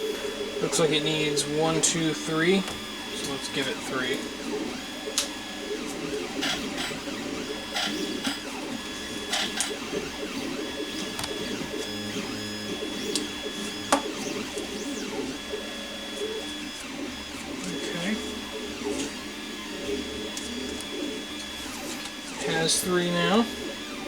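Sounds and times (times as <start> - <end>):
small machine whirring: 0.0 - 24.0.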